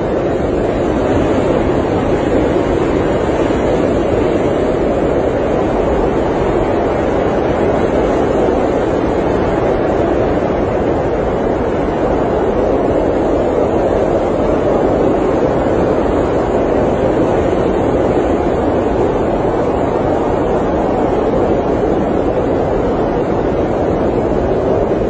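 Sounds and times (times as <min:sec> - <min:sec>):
blizzard wind rushing: 0:00.0 - 0:25.0.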